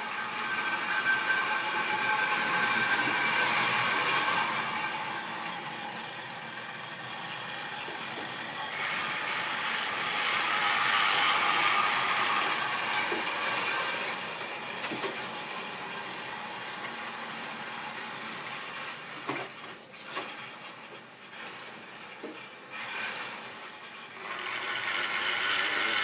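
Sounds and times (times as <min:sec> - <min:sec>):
model train motor whirring: 0:00.0 - 0:26.0
wheels rattling over rails: 0:00.0 - 0:26.0.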